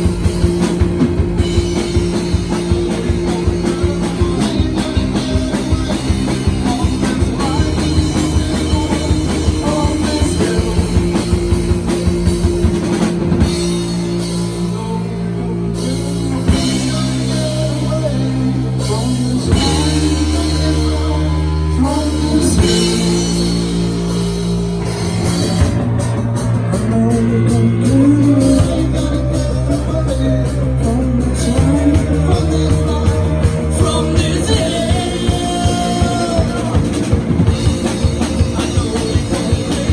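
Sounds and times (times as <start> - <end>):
drum kit beat: 0.0 - 39.9
sustained chords: 0.0 - 39.9.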